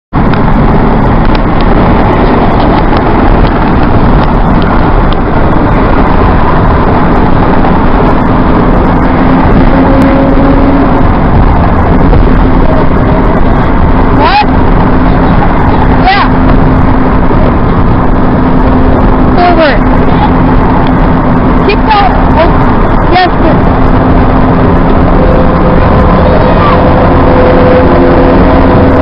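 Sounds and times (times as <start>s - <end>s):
car road and wind noise: 0.1s - 29.0s.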